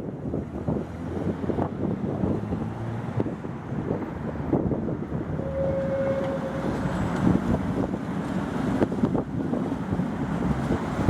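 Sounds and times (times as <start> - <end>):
tram rumbling on rails: 0.0 - 11.0
wind buffeting microphone: 0.0 - 11.0.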